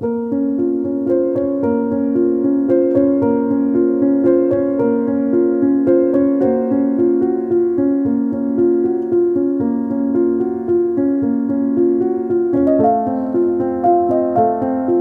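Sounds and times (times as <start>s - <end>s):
keyboard playing notes: 0.0s - 15.0s.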